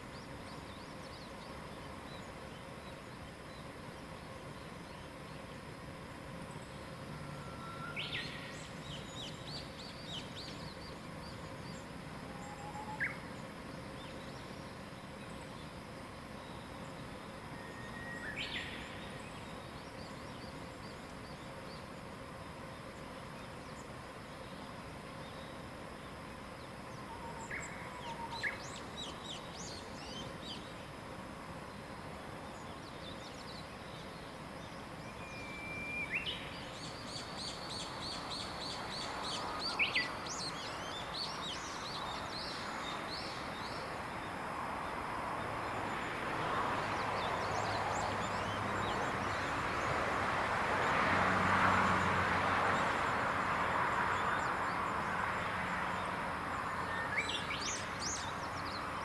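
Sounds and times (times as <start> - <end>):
songbirds calling and singing: 0.0 - 59.0.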